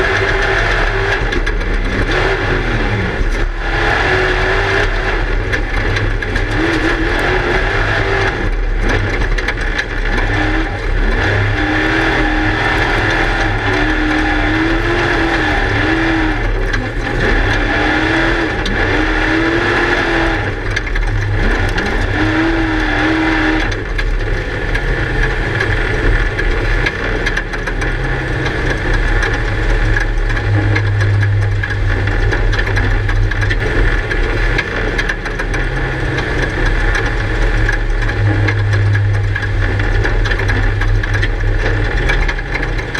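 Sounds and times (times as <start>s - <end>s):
race car engine revving: 0.0s - 42.9s
road noise: 0.0s - 42.9s.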